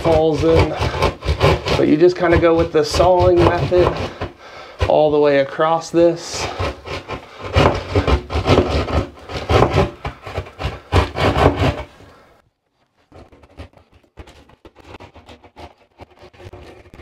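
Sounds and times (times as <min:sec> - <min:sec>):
hand saw sawing drywall: 0:00.0 - 0:12.2, 0:13.1 - 0:17.0.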